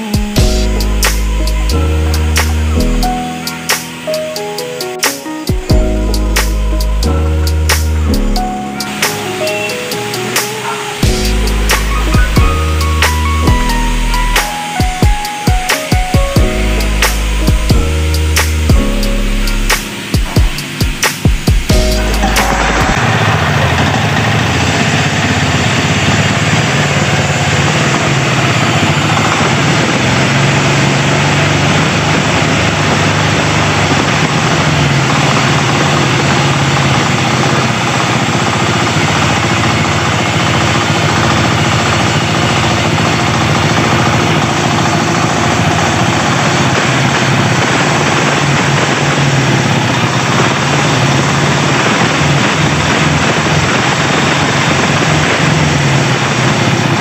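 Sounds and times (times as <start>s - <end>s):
air-cooled engine running: 0.0s - 57.0s.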